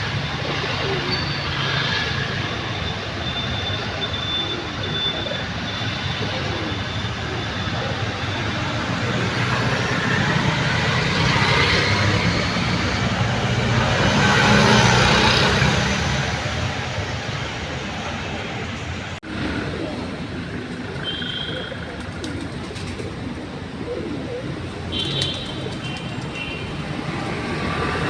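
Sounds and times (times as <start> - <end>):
traffic noise with low engine hum: 0.0 - 28.0.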